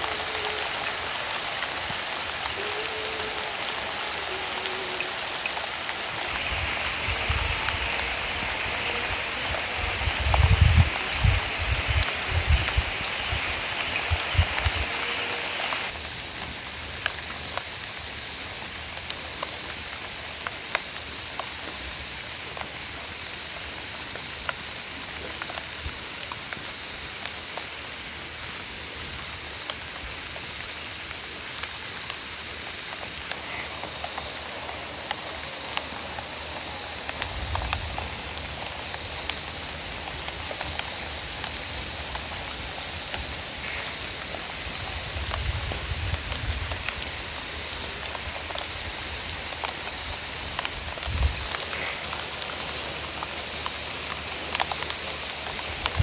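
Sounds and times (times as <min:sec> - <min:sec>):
drops pattering on leaves: 0:00.0 - 0:28.5, 0:29.1 - 0:56.0
light rain hissing: 0:00.0 - 0:56.0
night insects trilling: 0:00.0 - 0:56.0.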